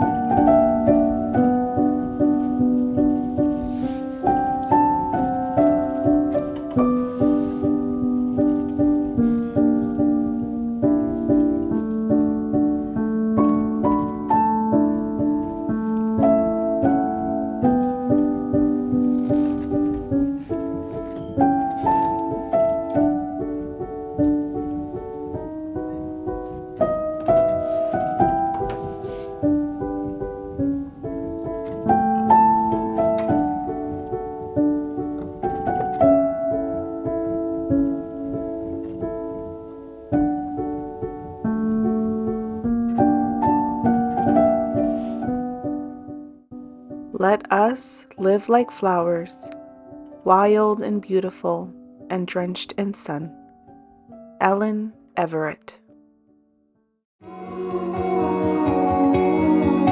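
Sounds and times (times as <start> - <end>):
gentle piano music: 0.0 - 59.9.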